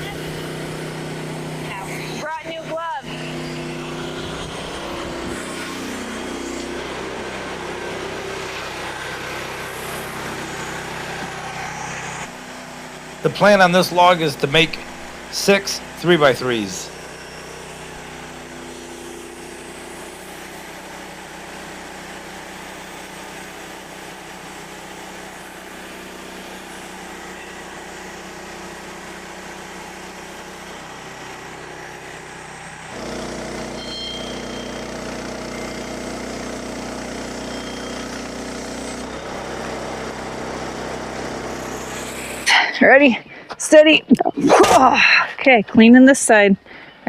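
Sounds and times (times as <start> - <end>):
sawmill gasoline engine running: 0.0 - 44.0.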